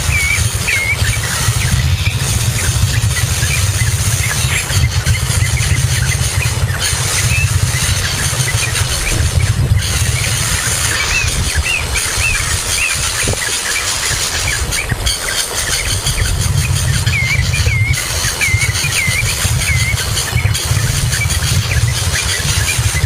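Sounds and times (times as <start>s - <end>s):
steady low rumble: 0.0s - 23.0s
young songbird chirping: 0.0s - 23.0s.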